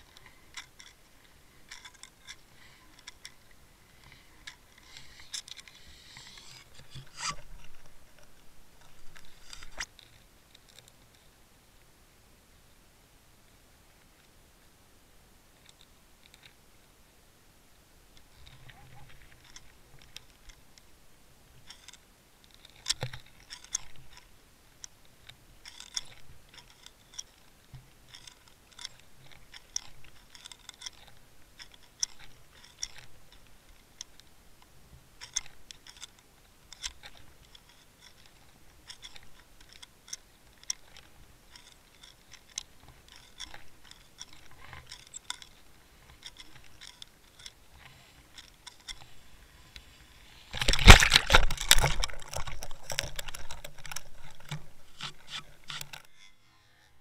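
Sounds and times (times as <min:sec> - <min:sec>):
underwater clicks and crackles: 0:00.0 - 0:11.4, 0:18.1 - 0:57.0.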